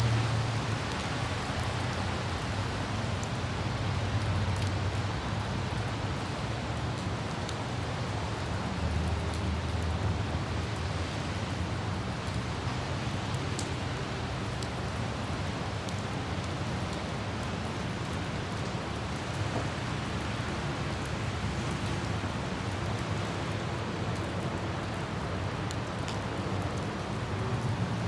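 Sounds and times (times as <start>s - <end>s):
raindrops ticking: 0.0s - 28.0s
wind: 0.0s - 28.0s.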